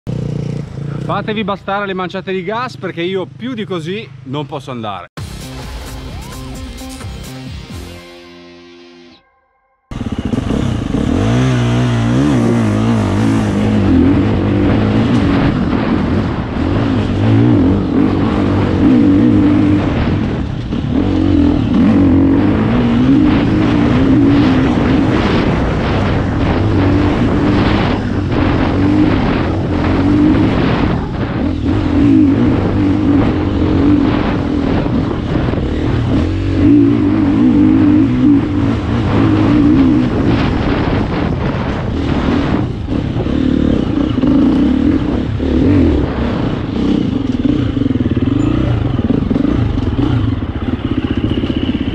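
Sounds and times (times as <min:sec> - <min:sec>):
motorcycle engine revving: 0:00.0 - 0:02.0, 0:09.9 - 0:51.9.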